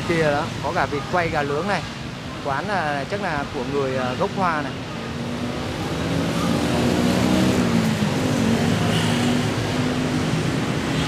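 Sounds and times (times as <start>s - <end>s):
motorbikes and scooters passing: 0.0s - 11.0s.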